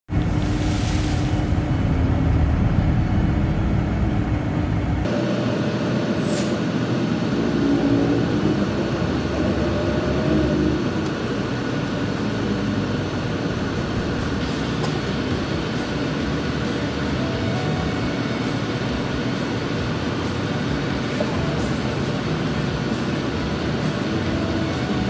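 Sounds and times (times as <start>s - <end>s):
bus engine and road noise: 0.1s - 25.0s.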